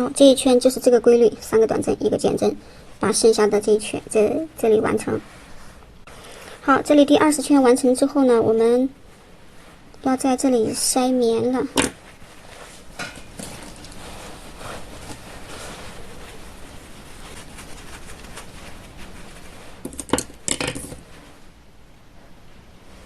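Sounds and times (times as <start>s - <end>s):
soft rustling and handling: 2.2s - 23.0s.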